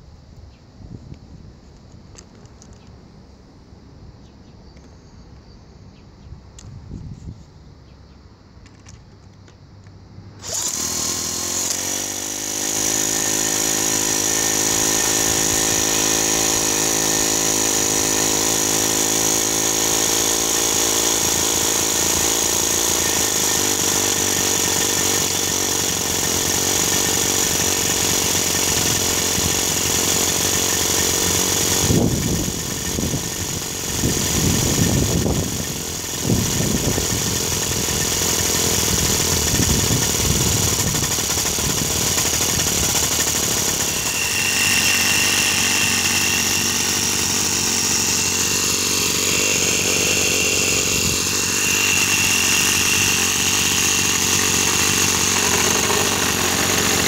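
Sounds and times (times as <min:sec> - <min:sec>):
cordless drill spinning: 0:10.4 - 0:57.0
model engine running with high whine: 0:10.4 - 0:57.0.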